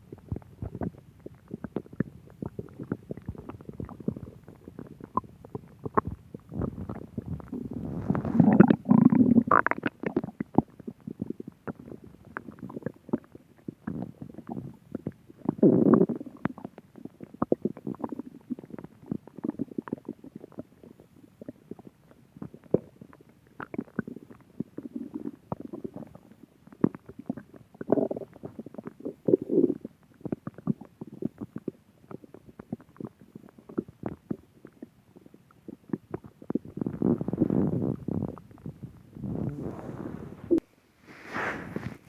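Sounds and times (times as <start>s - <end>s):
stomach growling: 0.0s - 42.0s.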